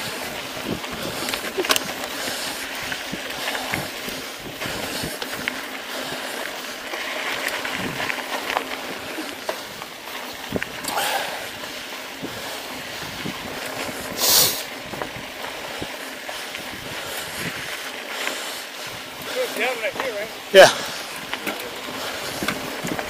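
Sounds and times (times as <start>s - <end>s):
bike tyres rolling on dirt trail: 0.0s - 23.0s
gravel clicks and rattles: 0.0s - 23.0s.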